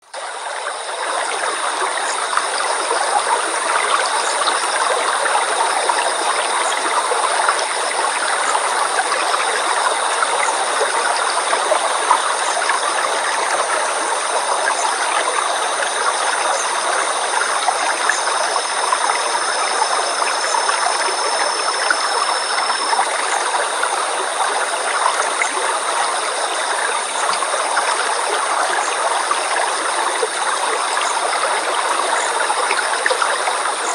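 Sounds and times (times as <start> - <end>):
stream flowing over rocks: 0.1 - 33.9.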